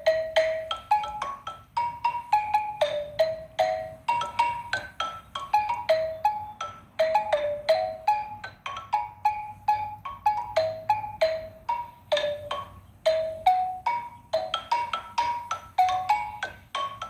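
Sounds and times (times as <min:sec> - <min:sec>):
xylophone melody: 0:00.0 - 0:17.0.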